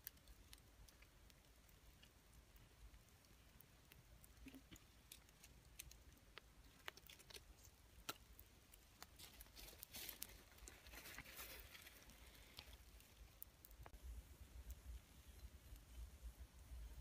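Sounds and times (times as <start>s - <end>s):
ember fire crackling: 0.0s - 17.0s.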